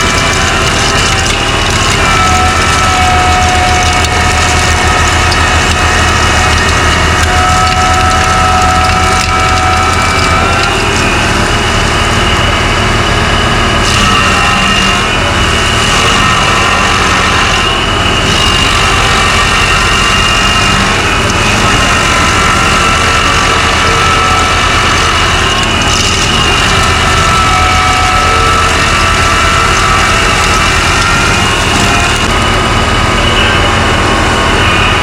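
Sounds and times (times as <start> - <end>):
heavy engine running: 0.0 - 35.0.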